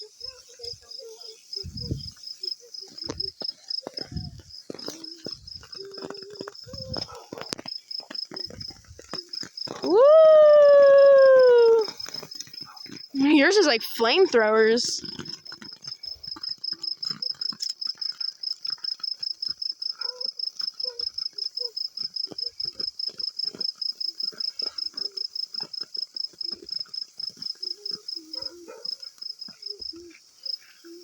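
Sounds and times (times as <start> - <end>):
faint background sounds: 0.0 - 18.5, 19.8 - 31.0
cricket chirping: 0.0 - 31.0.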